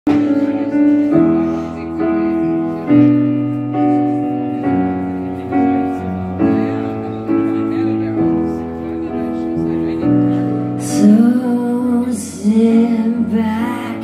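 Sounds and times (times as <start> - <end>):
keyboard playing held chords: 0.1 - 14.0.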